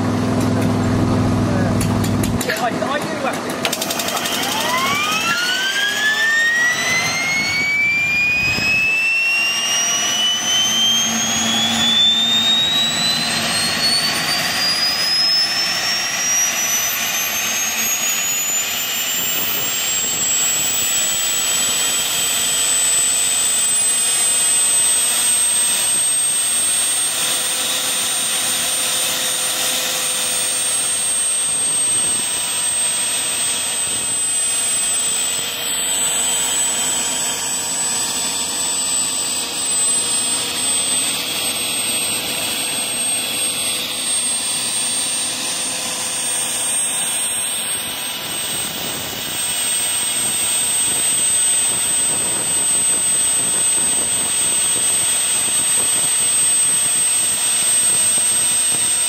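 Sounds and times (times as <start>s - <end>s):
gas turbine engine whine: 0.0s - 59.0s.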